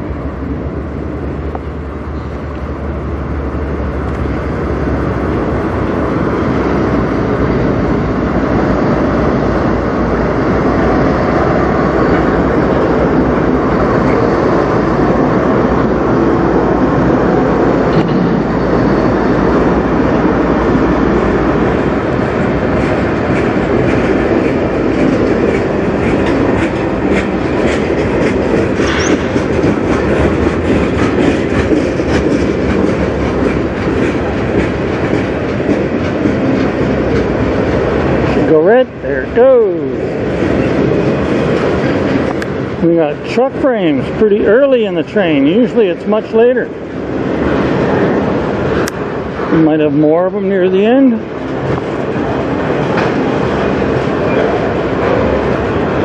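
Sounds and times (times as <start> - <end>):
diesel locomotive engines running: 0.0 - 56.0
freight cars rolling past: 0.0 - 56.0.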